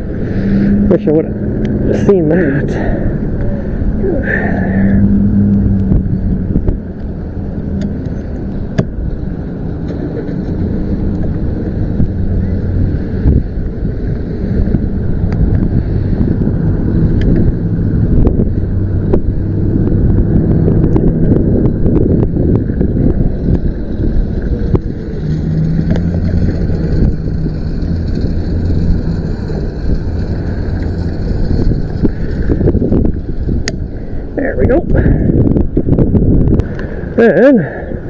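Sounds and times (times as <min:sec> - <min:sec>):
loud low rumble: 0:00.0 - 0:38.0.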